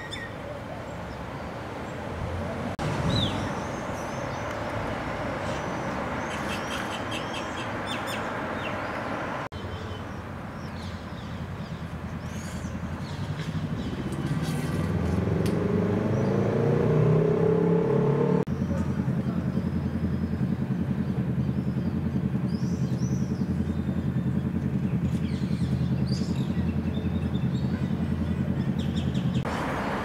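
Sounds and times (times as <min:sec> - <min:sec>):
road traffic noise: 0:00.0 - 0:30.0
vehicle engine: 0:00.0 - 0:30.0
small birds chirping: 0:03.0 - 0:16.8, 0:18.5 - 0:30.0.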